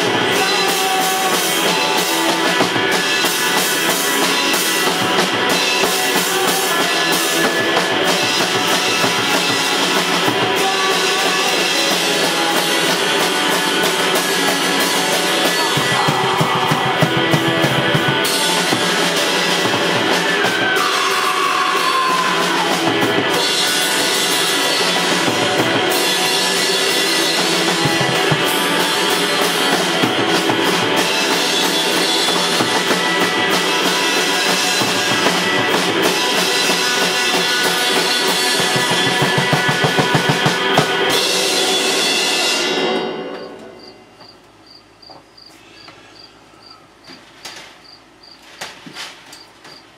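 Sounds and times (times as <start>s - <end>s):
rock band playing: 0.0s - 44.2s.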